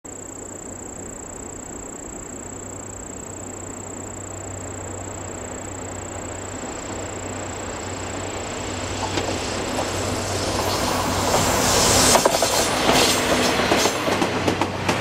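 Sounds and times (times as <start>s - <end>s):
steady high-pitched tone: 0.1s - 13.7s
diesel locomotive engine hum: 0.1s - 15.0s.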